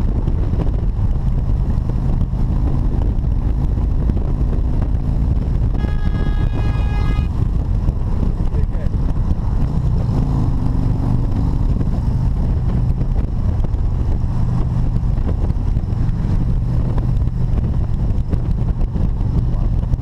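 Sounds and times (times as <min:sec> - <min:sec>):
motorcycle engine cruising: 0:00.0 - 0:20.0
wind noise rushing: 0:00.0 - 0:20.0.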